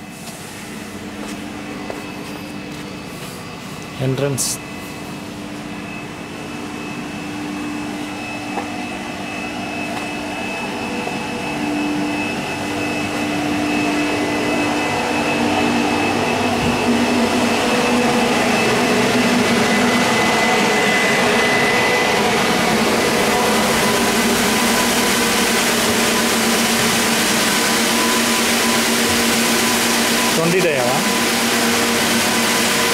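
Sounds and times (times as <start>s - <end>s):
high whining tones: 0.0s - 32.9s
knitting machines humming: 0.8s - 32.9s.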